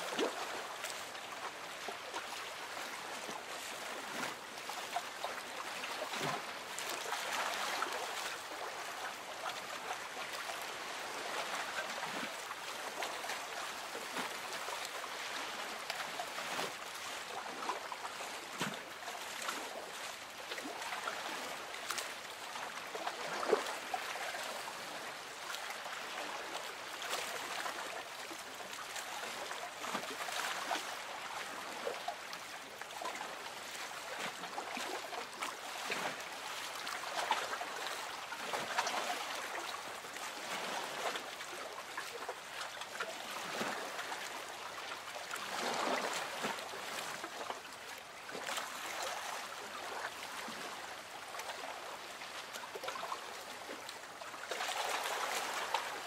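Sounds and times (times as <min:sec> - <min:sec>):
water lapping against boat hull: 0:00.0 - 0:56.0.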